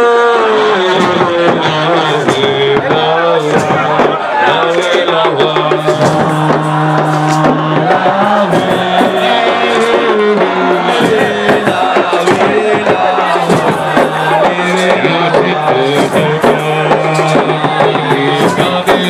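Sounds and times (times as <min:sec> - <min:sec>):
loud music with fast drumming: 0:00.8 - 0:19.0.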